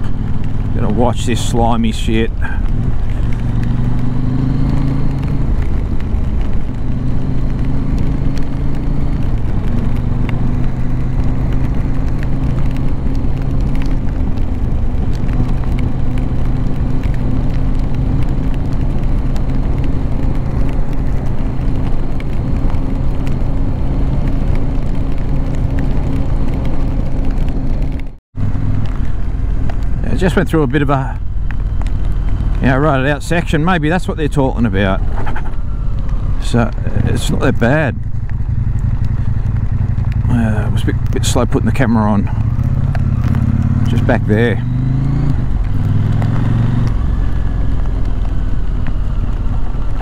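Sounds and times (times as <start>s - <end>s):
heavy low rumble: 0.0s - 50.0s
motorcycle engine running: 0.0s - 50.0s.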